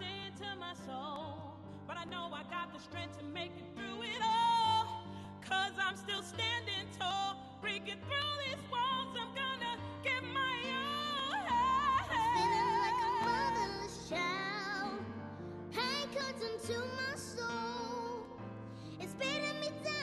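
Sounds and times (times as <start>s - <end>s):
girl singing gospel: 0.0s - 20.0s.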